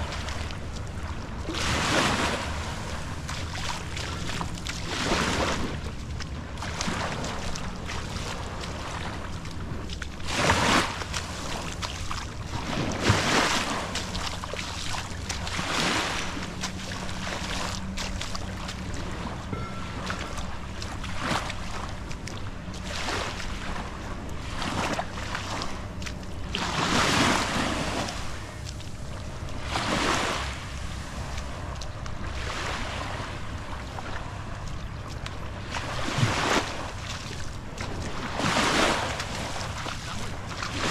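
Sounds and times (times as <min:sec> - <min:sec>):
low steady hum: 0:00.0 - 0:40.9
small waves lapping on shore: 0:00.0 - 0:40.9.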